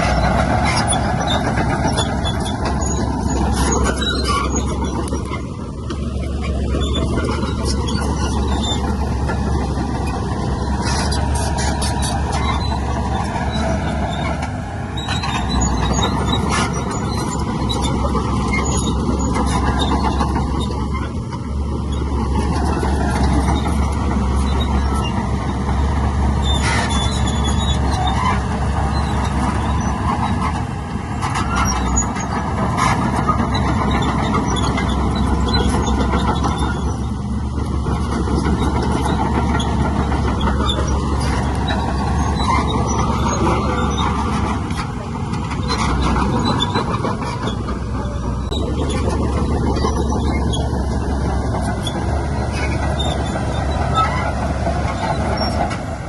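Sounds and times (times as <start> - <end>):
metallic squeals: 0.0 - 21.2, 21.9 - 55.8
diesel engine drone: 0.0 - 56.0.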